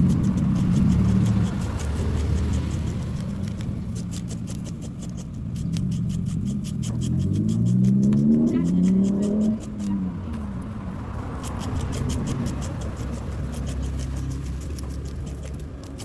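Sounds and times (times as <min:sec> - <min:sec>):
fast sharp clicks: 0:00.0 - 0:10.0, 0:11.3 - 0:16.0.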